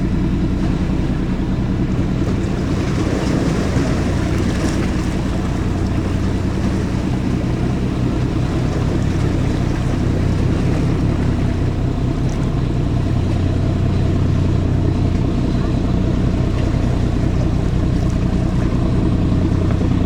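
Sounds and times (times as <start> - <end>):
ship engine humming: 0.0 - 20.0.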